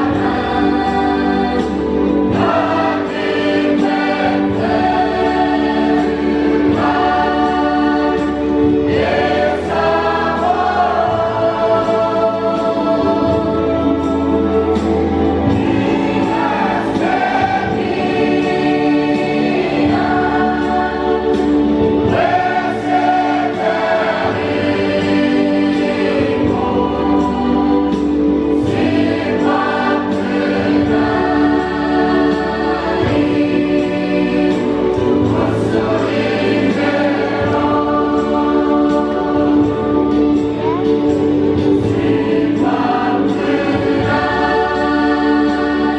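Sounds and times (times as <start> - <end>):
choir singing in harmony: 0.0 - 45.9.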